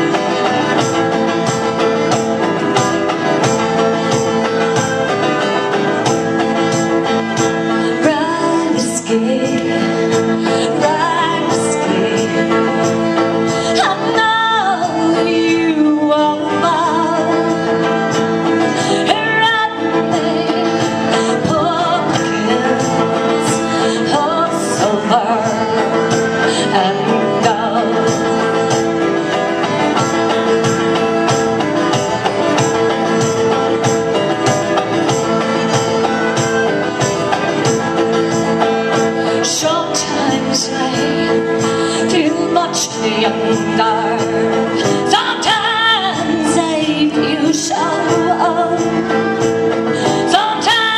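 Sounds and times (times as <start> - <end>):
strummed guitar: 0.0 - 50.9.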